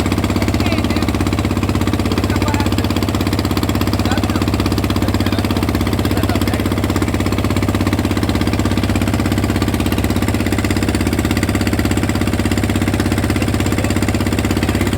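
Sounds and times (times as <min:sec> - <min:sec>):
engine running: 0:00.0 - 0:14.9.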